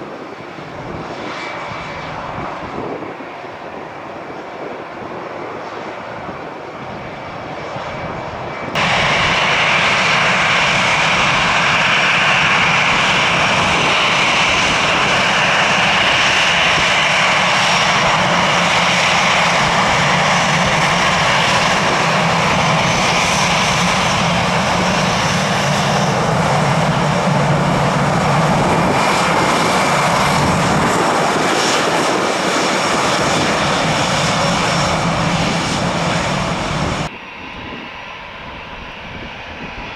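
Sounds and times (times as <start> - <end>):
jet engines running with whine: 0.0 - 39.9.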